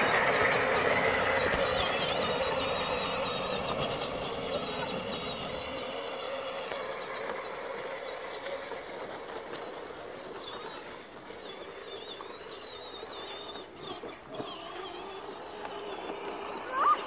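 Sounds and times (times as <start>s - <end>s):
steady outdoor hiss: 0.0s - 17.0s
toy car electric motor whine: 0.0s - 17.0s.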